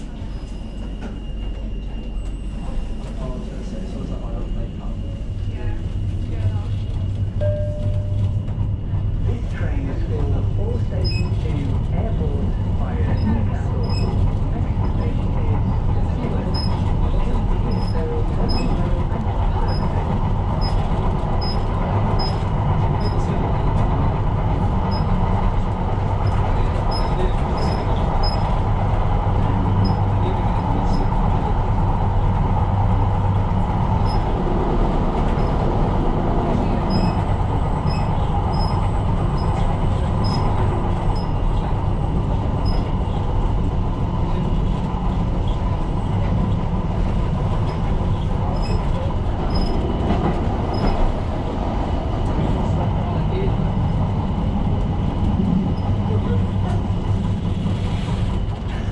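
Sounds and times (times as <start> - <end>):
train rumbling along track: 0.0 - 58.9.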